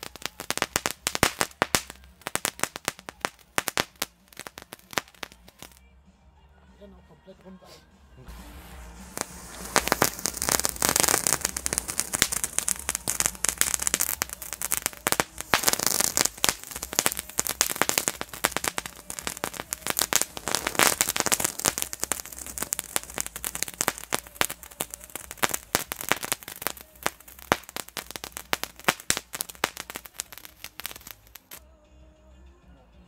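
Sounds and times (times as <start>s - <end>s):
hissing spray of sparks: 0.0s - 5.8s, 8.3s - 31.6s
rapid crackling pops: 0.0s - 5.8s, 9.1s - 31.6s.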